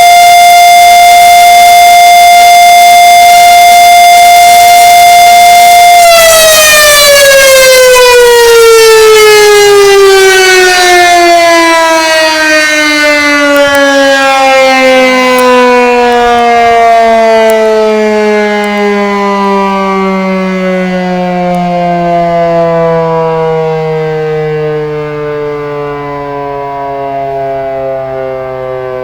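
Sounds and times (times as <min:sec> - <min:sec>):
siren winding down: 0:00.0 - 0:29.0.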